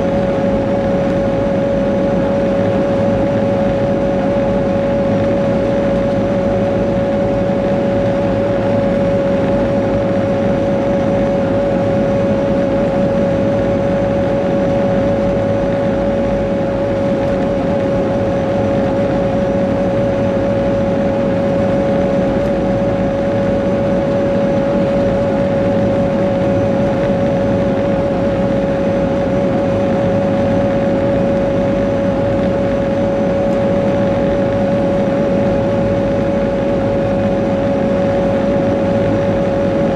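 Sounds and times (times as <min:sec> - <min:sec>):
diesel engine droning: 0:00.0 - 0:39.9
steady whine: 0:00.0 - 0:39.9.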